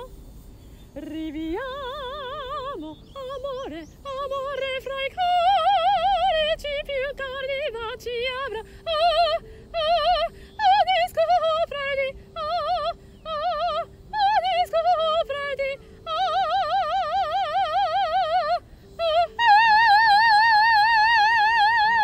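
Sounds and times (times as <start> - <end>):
woman singing operatic song: 0.9 - 22.0.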